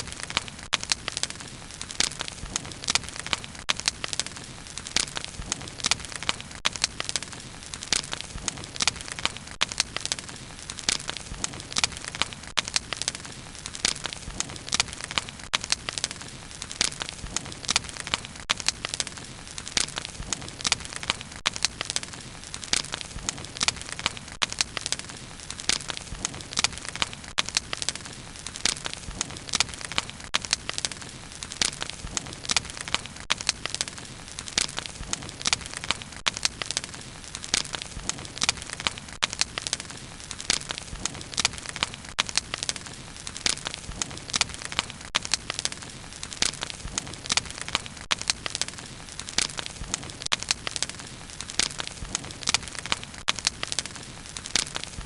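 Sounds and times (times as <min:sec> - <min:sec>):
wood crackling and popping: 0:00.0 - 0:55.0.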